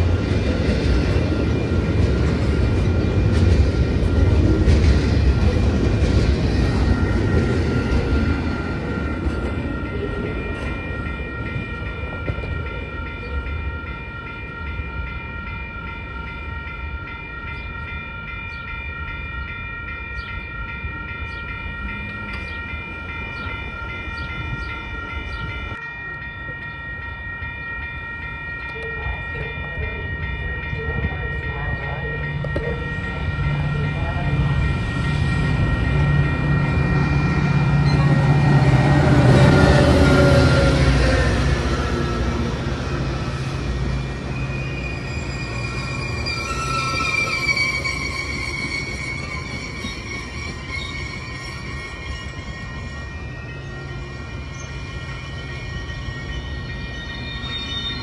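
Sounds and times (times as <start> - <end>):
freight train wheels rumbling on rail: 0.0 - 58.0
low train engine: 0.0 - 58.0
steady high-pitched tones: 0.0 - 58.0.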